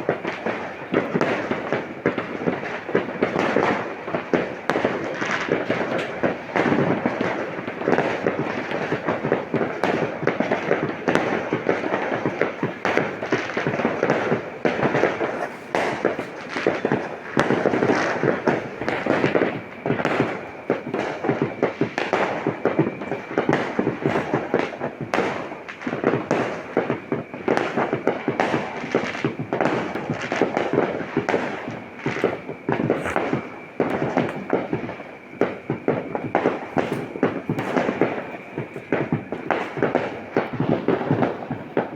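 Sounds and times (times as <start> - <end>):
fireworks and firecrackers banging: 0.0 - 41.9.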